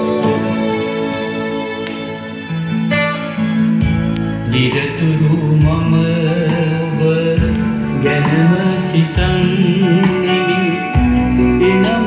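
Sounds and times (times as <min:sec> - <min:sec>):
song with guitar and singing: 0:00.0 - 0:12.0.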